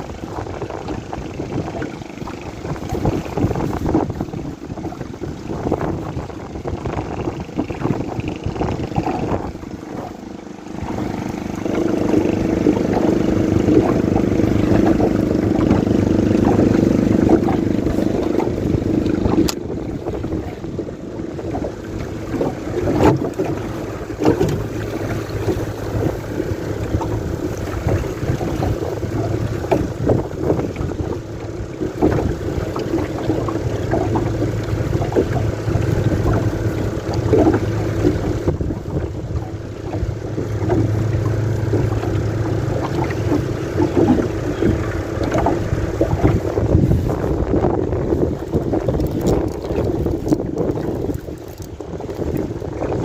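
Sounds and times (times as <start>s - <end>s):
motor boat engine running: 0.0s - 53.0s
wind on microphone: 0.0s - 53.0s.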